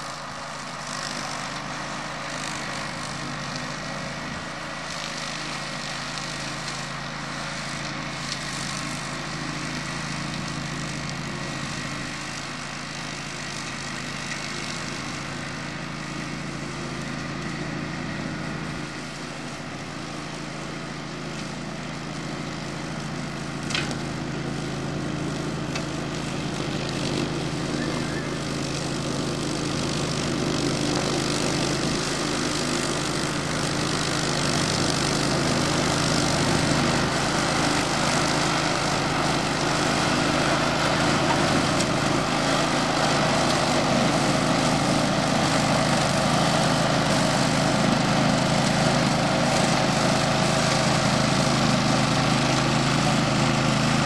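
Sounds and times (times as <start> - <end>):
ride-on mower engine running: 0.0 - 54.0.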